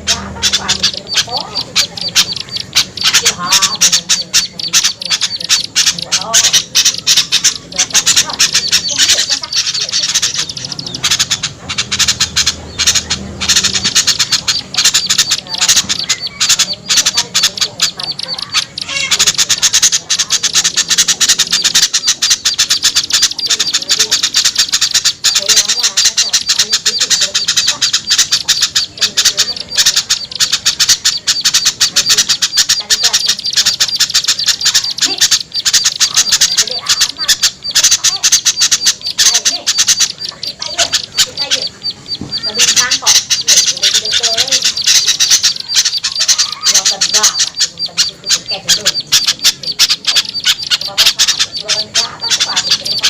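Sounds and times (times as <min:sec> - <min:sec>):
small birds harsh alarm chatter: 0:00.0 - 0:53.0.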